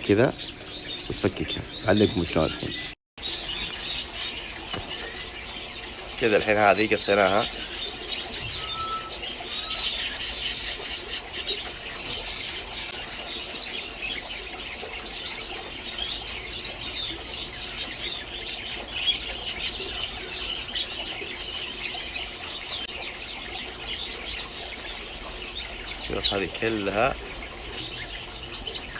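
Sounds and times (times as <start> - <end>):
finches chirping and squeaking: 0.0 - 28.9.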